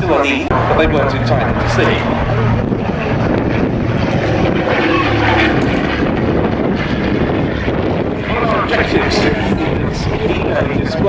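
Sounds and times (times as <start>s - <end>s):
biplane piston engines running: 0.0s - 11.0s.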